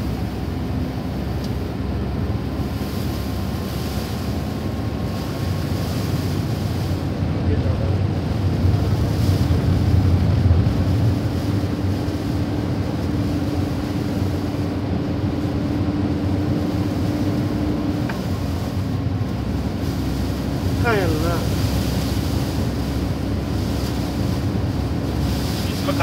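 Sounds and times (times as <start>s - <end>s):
wind buffeting microphone: 1.8s - 26.0s.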